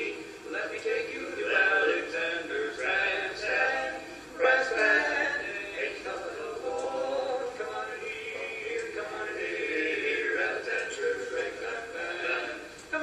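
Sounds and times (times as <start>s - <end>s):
men singing a cappella harmony: 0.0s - 13.0s.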